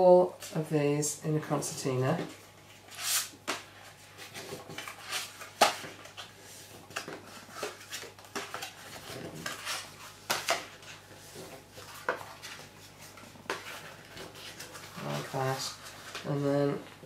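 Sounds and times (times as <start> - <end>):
card crackling as it is folded: 2.7 - 16.4.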